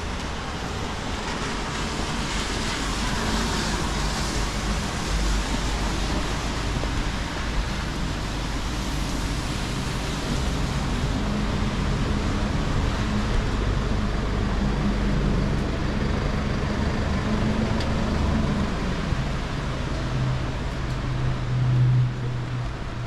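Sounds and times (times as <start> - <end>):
rain and tyres hissing: 0.0 - 23.0.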